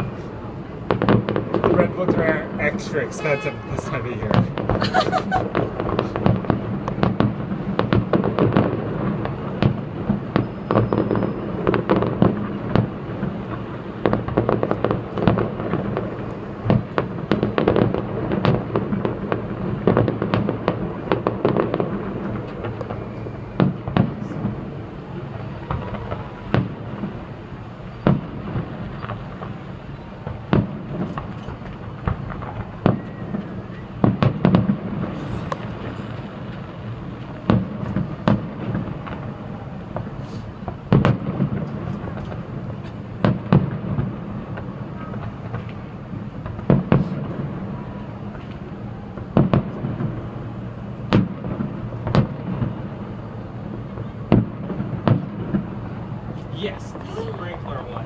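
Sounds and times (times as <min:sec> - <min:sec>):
distant fireworks bursts and booms: 0:00.0 - 0:58.0.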